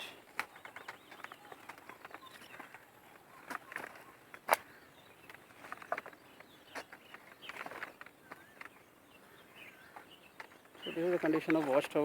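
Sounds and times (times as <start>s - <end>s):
faint bird chirps: 0.0s - 11.7s.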